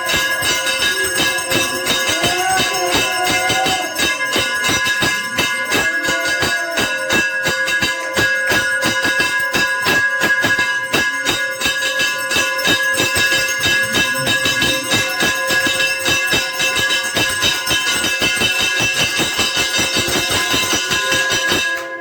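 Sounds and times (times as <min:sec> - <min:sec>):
temple bells rung fast: 0:00.0 - 0:22.0.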